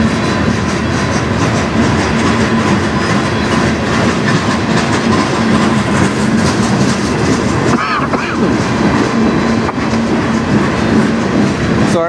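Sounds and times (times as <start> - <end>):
freight train rumbling past: 0.0 - 12.0
wheels clacking over rail joints: 0.0 - 12.0.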